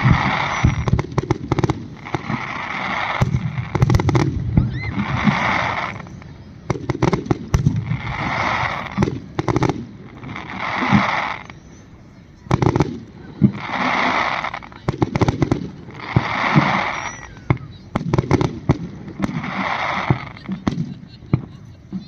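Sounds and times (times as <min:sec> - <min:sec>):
crackling hiss: 0:00.0 - 0:22.0
fireworks bangs and cracks: 0:00.0 - 0:22.0.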